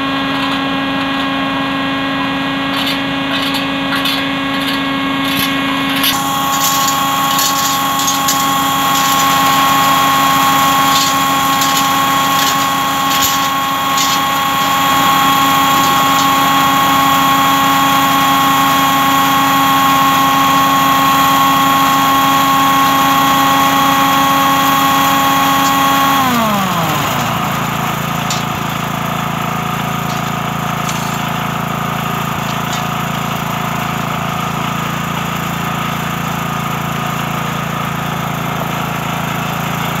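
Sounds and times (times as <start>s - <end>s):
small engine running: 0.0s - 40.0s.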